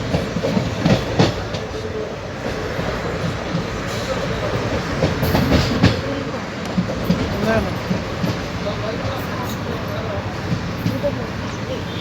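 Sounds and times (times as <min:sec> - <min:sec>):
train rolling rumble: 0:00.0 - 0:12.0
wheels clacking over rail joints: 0:00.0 - 0:12.0.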